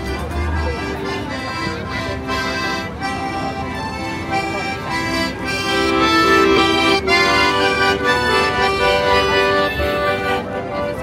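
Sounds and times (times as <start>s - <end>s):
instrument playing held chords: 0.0s - 11.0s.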